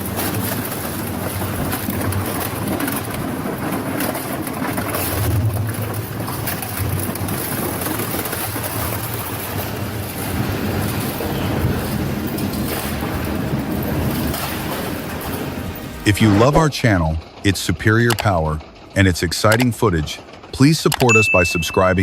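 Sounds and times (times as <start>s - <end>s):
heavy machine grinding: 0.0s - 17.7s.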